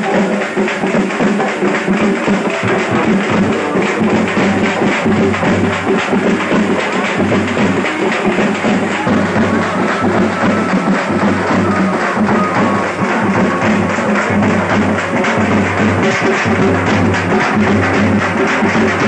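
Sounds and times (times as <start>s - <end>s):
loud festival drumming: 0.0s - 19.0s
music: 0.0s - 19.0s.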